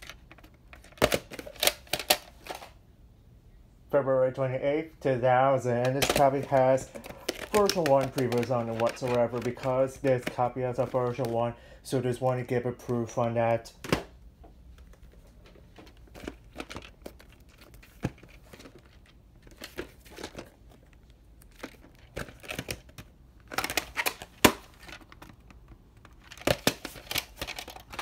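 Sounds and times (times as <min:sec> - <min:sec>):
plastic case clicks and rustles: 0:00.0 - 0:02.8, 0:05.8 - 0:11.4, 0:13.8 - 0:28.0.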